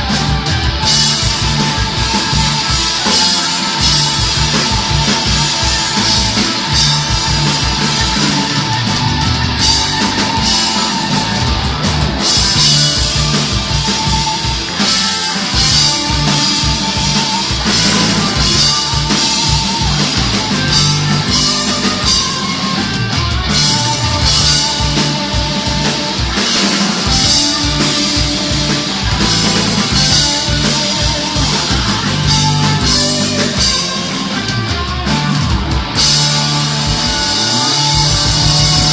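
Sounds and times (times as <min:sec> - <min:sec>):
drum kit steady beat: 0:00.0 - 0:38.9
electric guitar: 0:00.0 - 0:38.9.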